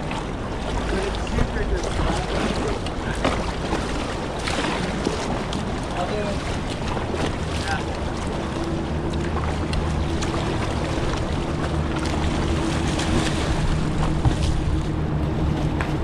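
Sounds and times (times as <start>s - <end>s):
river water splashing on kayak: 0.0s - 16.0s.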